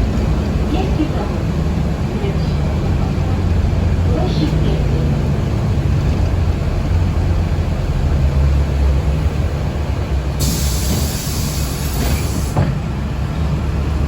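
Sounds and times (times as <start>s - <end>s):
vehicle cabin rumble: 0.0s - 14.0s.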